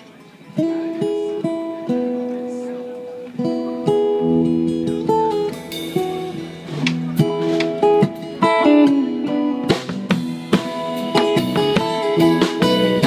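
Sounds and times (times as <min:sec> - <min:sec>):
acoustic guitar strumming: 0:00.0 - 0:13.0
electric guitar: 0:00.0 - 0:13.0
bass guitar: 0:00.7 - 0:13.0.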